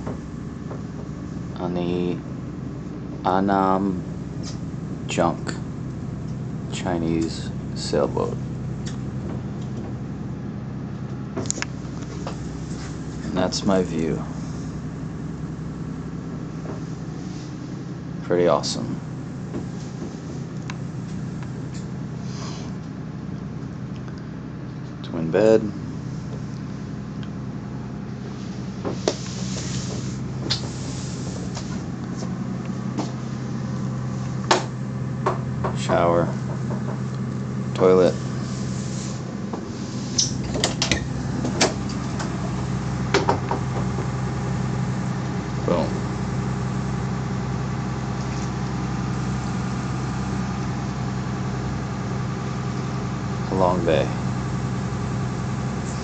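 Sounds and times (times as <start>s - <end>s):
engine droning: 0.0s - 56.0s
low machine hum: 0.0s - 56.0s.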